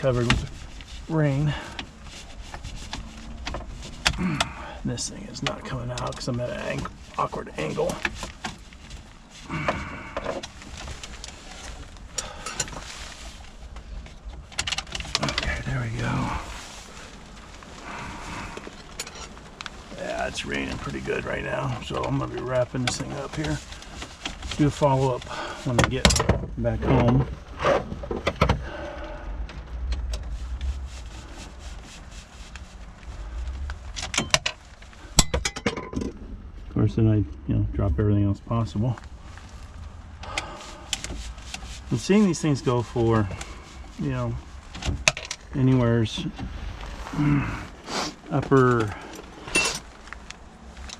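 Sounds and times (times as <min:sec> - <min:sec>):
plastic rubbing against metal: 0:00.0 - 0:36.3, 0:38.6 - 0:50.9
steady low rumble: 0:00.0 - 0:50.9.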